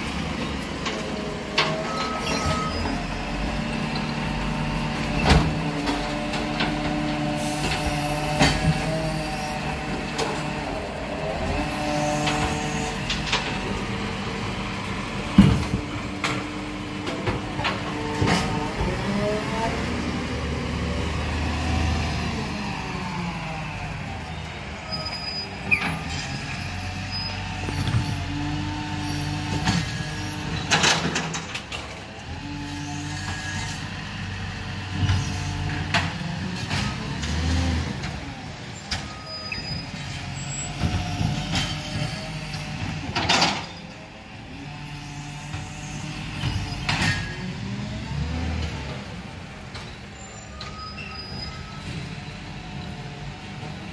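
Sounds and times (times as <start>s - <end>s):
garbage truck diesel engine: 0.0s - 53.9s.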